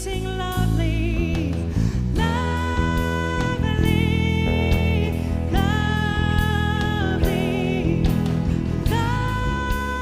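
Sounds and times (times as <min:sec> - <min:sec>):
worship band playing slow song: 0:00.0 - 0:10.0.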